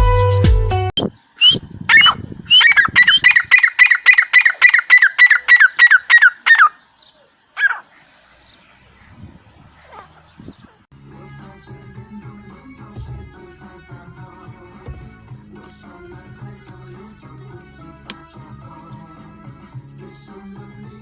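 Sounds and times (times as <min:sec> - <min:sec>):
bird calling: 0:01.0 - 0:21.0.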